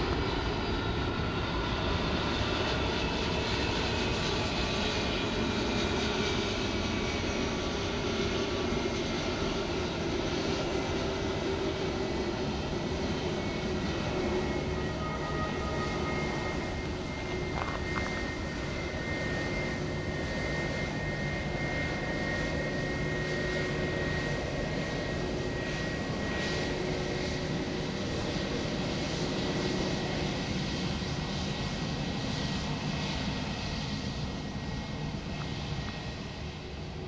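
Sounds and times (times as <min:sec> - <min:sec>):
jet engines whine and rumble: 0:00.0 - 0:37.0.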